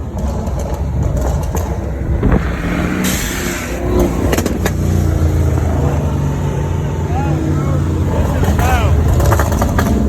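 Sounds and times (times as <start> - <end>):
car engine running loudly: 0.0 - 10.0.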